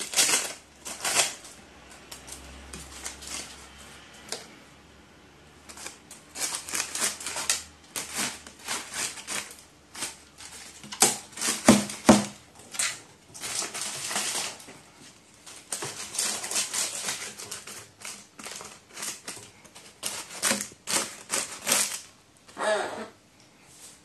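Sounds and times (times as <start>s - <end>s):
paper crinkling: 0.0s - 3.8s, 5.6s - 22.2s.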